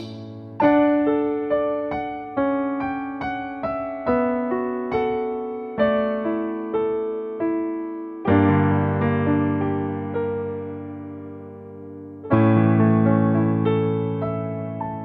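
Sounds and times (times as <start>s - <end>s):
solo piano ballad: 0.0s - 15.0s.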